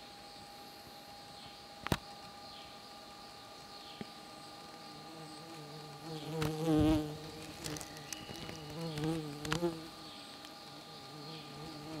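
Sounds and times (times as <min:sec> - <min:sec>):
insect wings buzzing: 0:01.9 - 0:12.0.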